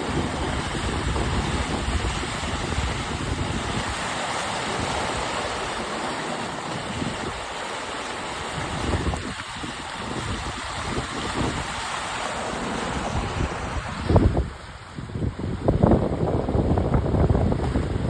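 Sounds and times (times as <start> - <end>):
wind rumbling on microphone: 0.0 - 5.8, 8.4 - 18.0
water rushing past hulls: 0.0 - 18.0.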